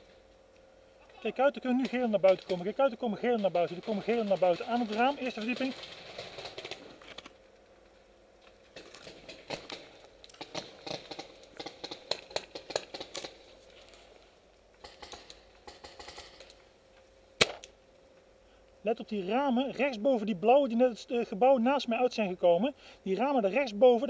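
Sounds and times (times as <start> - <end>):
leaves and twigs rustling: 0.0 - 21.5.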